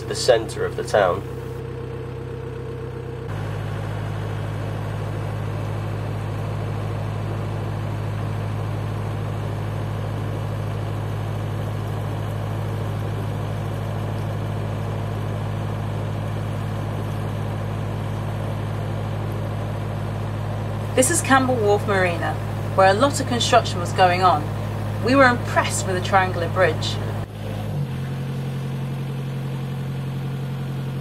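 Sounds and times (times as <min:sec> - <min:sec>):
boat diesel engine running: 0:00.0 - 0:31.0.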